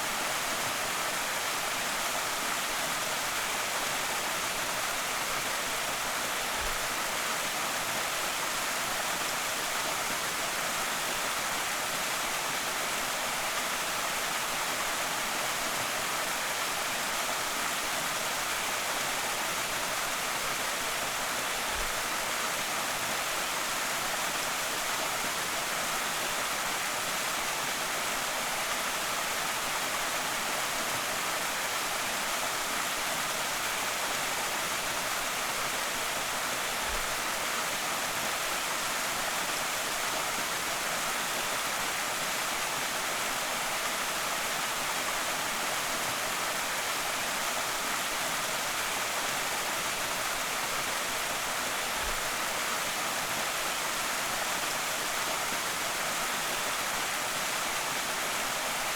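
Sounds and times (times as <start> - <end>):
small waterfall rushing: 0.0 - 58.9.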